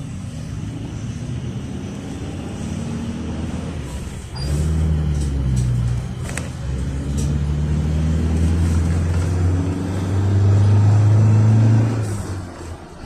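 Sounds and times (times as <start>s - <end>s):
minibus engine drone: 0.0s - 13.0s
road noise: 0.0s - 13.0s.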